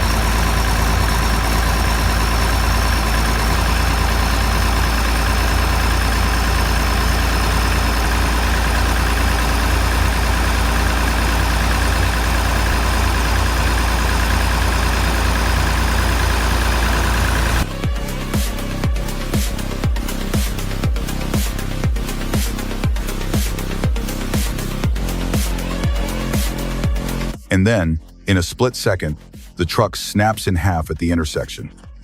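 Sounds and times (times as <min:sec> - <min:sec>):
diesel engine idling: 0:00.0 - 0:27.8.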